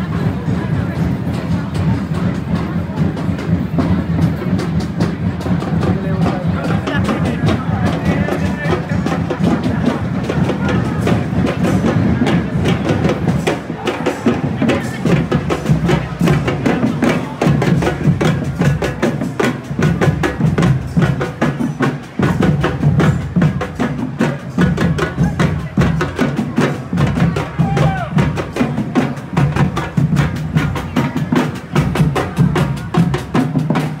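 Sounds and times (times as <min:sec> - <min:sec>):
drum band playing: 0:00.0 - 0:34.0.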